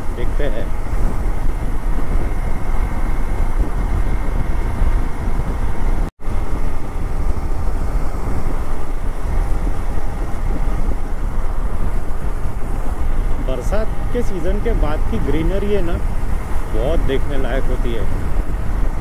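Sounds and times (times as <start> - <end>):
motorcycle engine droning: 0.0 - 19.0
wind on microphone: 0.0 - 19.0.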